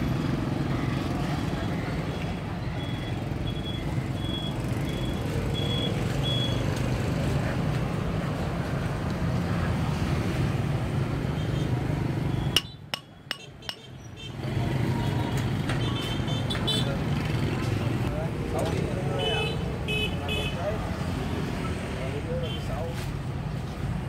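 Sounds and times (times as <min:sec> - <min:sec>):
market ambience: 0:00.0 - 0:24.0
motorbike traffic: 0:00.0 - 0:24.0.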